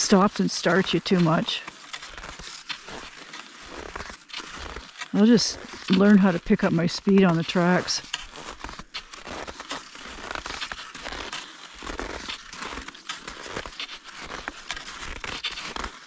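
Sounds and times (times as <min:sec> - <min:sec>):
skis crunching through snow: 0:00.0 - 0:16.0.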